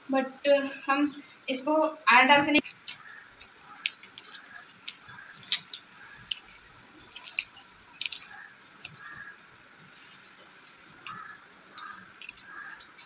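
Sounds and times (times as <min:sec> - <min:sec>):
dough kneaded by hand: 0:02.4 - 0:13.0.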